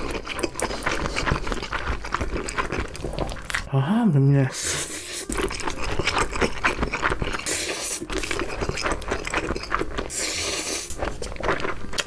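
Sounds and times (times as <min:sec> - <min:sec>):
slurping noodles: 0:00.0 - 0:03.7, 0:04.6 - 0:12.0.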